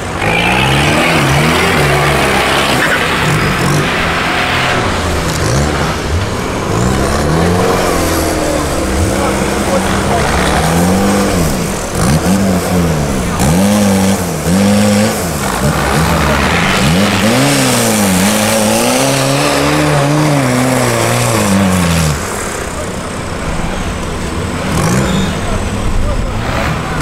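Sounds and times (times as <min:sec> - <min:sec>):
off-road engines revving hard: 0:00.0 - 0:27.0.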